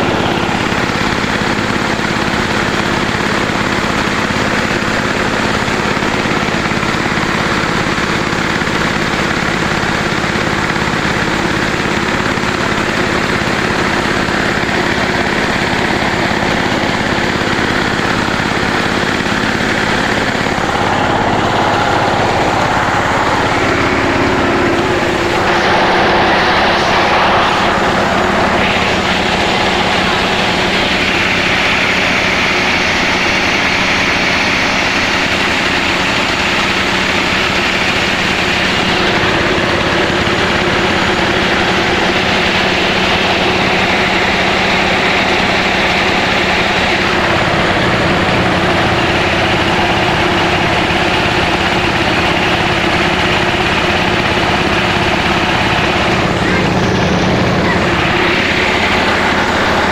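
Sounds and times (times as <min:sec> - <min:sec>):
diesel engine running steadily: 0:00.0 - 0:59.9
rice mill milling: 0:00.0 - 0:59.9.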